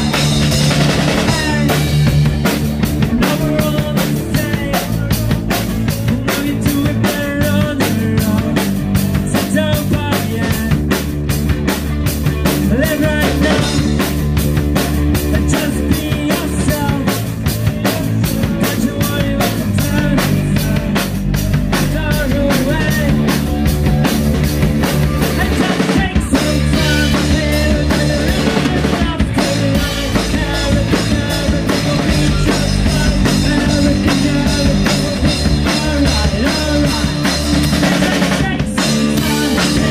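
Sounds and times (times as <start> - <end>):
drum kit beat: 0.0 - 39.9
electric bass: 0.0 - 39.9
electric guitars: 0.0 - 39.9
person singing: 0.9 - 11.1, 12.3 - 14.2, 14.8 - 39.9.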